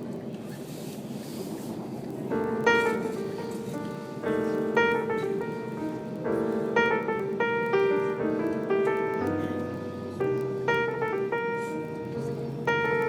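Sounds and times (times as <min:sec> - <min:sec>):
piano chords: 0:01.8 - 0:13.0.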